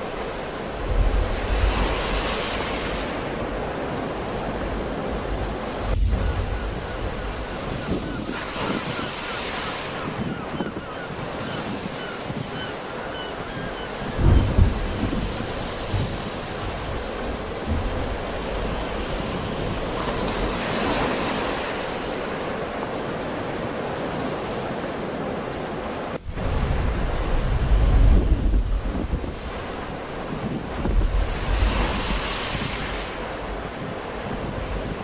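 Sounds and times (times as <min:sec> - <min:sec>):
wind buffeting microphone: 0:00.0 - 0:25.5, 0:26.1 - 0:35.0
sea waves breaking: 0:00.0 - 0:35.0.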